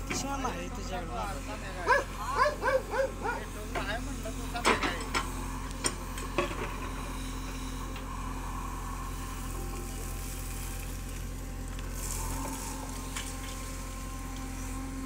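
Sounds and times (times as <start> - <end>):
diesel engine under load: 0.0 - 15.0.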